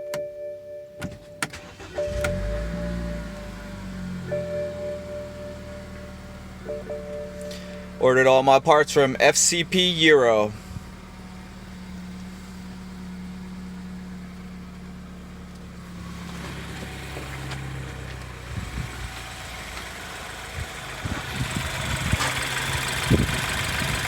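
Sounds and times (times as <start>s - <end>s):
car engine idling: 0.9s - 24.0s.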